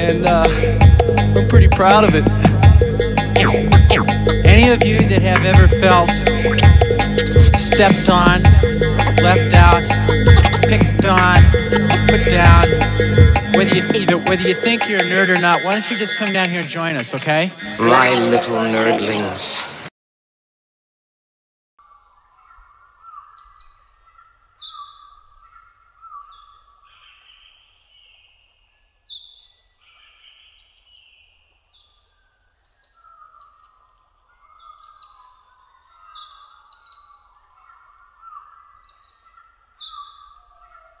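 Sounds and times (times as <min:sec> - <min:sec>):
birds chirping: 0:00.0 - 0:18.9, 0:21.8 - 0:41.0.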